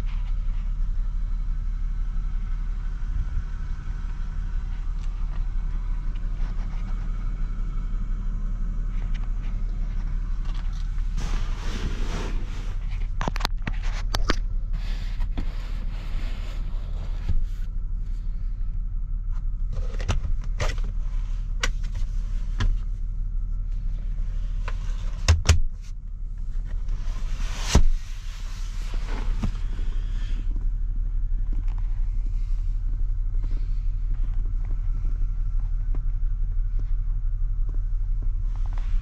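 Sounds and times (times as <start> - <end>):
car engine and road drone: 0.0 - 39.0.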